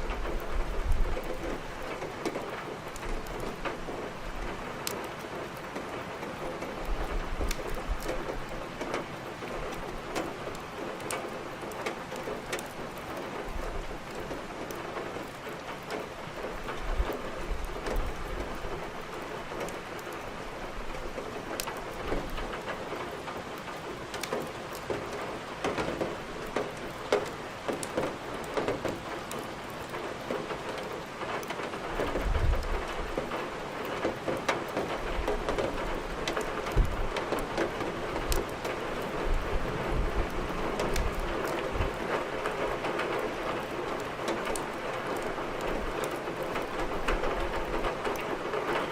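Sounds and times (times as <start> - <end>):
firewood crackling and popping: 0.0 - 48.9
steady rain: 0.0 - 48.9.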